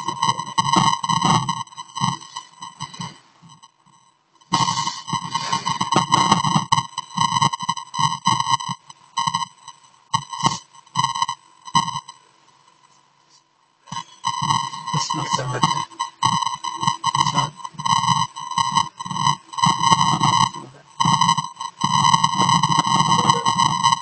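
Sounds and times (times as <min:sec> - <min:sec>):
high-pitched whine: 0:00.0 - 0:12.3, 0:12.9 - 0:24.0.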